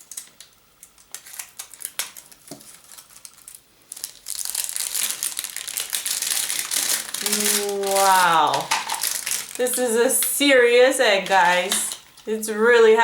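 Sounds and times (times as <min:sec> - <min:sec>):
wrapping crinkling and tearing: 0:00.0 - 0:12.3.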